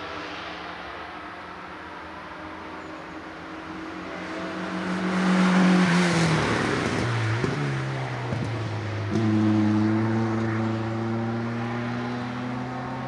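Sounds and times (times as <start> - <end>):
race car engine passing: 0.0 - 13.0.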